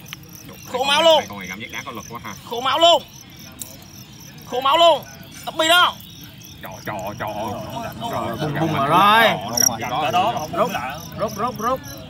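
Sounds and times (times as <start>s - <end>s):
cricket chirping: 0.0s - 12.0s
insect song: 0.0s - 12.0s.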